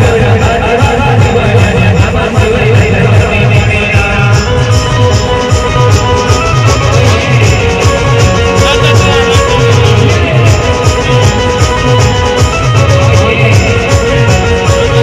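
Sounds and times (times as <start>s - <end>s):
fast drum beat: 0.0s - 15.0s
loud band music: 0.0s - 15.0s.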